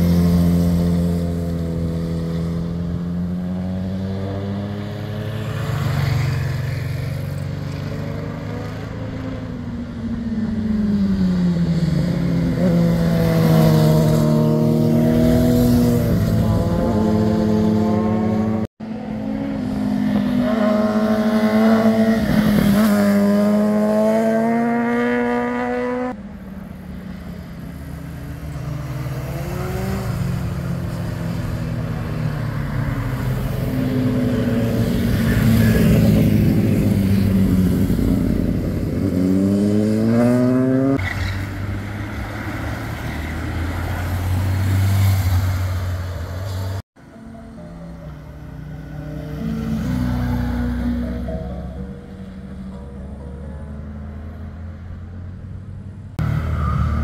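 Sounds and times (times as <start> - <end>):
motorcycles slowing and accelerating: 0.0 - 57.0.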